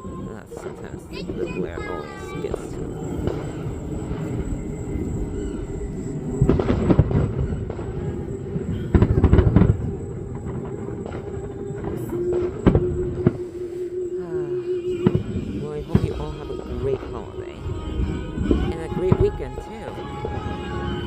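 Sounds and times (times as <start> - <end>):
fireworks bangs and crackling: 0.0 - 13.8, 14.7 - 21.0
low rumble: 0.0 - 21.0.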